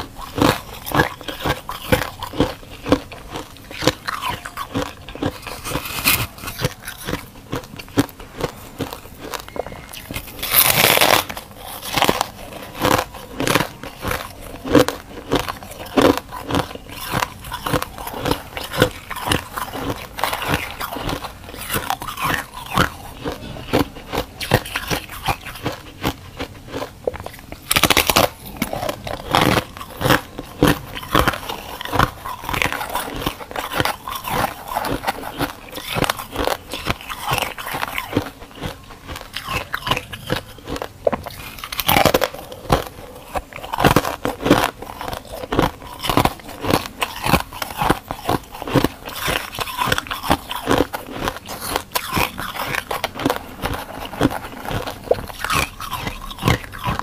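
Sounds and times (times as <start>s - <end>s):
crunchy chewing of frost: 0.0s - 57.0s.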